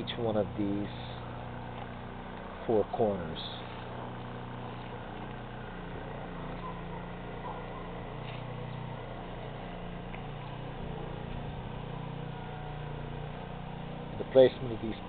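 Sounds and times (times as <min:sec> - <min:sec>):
distant engine humming: 0:00.0 - 0:15.0
outdoor background noise: 0:00.0 - 0:15.0.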